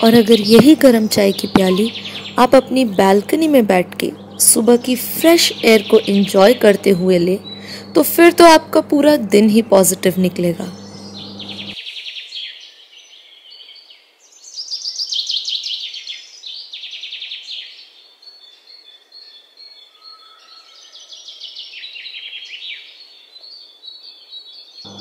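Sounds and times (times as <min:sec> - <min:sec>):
birds chirping trills: 0:00.0 - 0:25.0.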